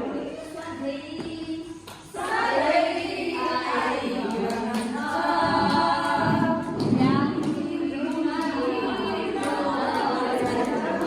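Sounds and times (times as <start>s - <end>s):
group of voices singing: 0.0s - 11.0s.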